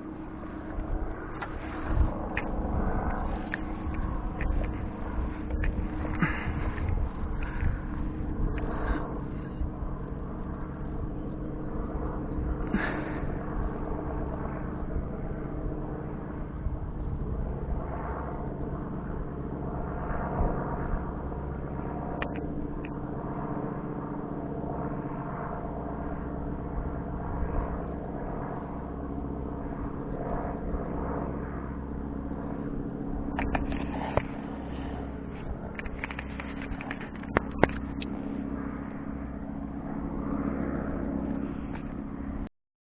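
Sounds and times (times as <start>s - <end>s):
model motor spinning propeller: 0.0s - 42.5s.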